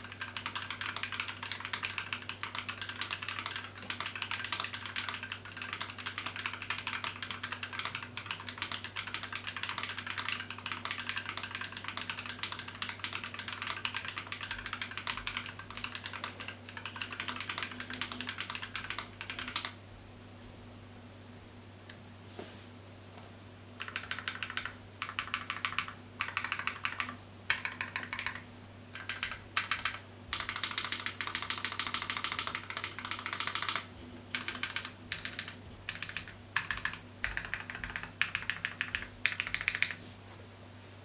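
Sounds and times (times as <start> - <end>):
fast mechanical keyboard typing: 0.0 - 19.8, 23.8 - 28.4, 29.0 - 40.0.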